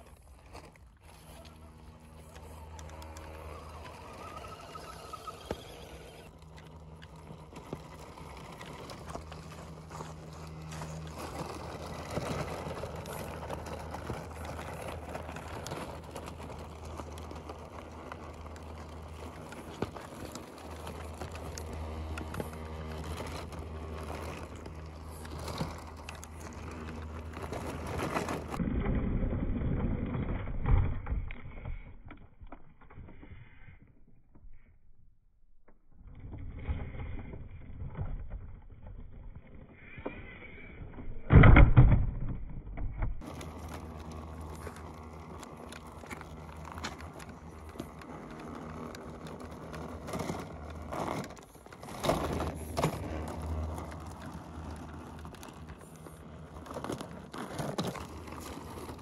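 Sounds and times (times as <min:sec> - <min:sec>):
rc truck motors whirring: 0:00.0 - 0:34.2, 0:43.2 - 0:59.0.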